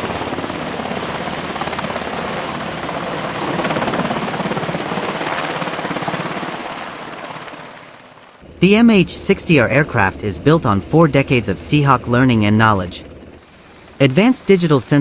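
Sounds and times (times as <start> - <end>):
helicopter rotor chop: 0.0 - 15.0.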